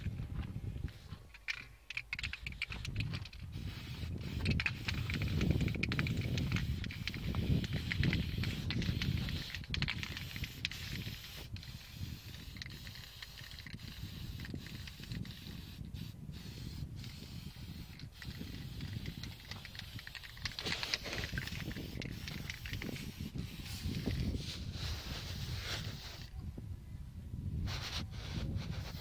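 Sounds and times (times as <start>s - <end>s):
aerosol spray hissing: 2.2s - 26.3s, 27.7s - 29.0s.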